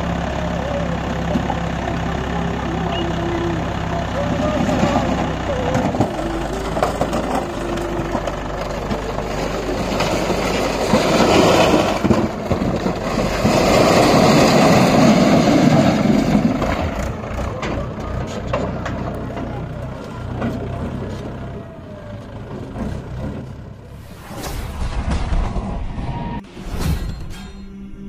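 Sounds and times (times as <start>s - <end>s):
diesel engine running: 0.0s - 24.4s.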